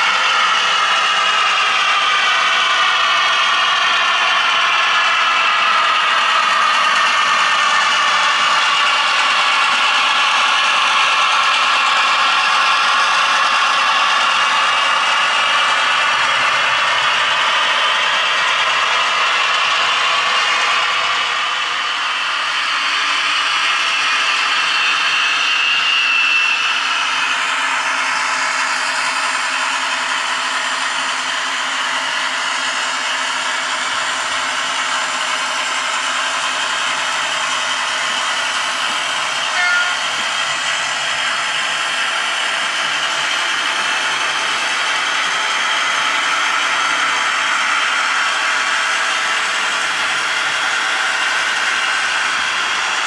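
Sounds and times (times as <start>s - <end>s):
model train motor whine: 0.0s - 53.0s
wheels rattling over rails: 0.0s - 53.0s.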